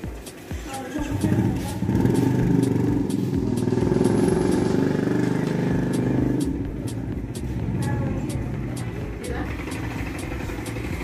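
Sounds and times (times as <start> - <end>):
engine running: 1.1 - 11.0.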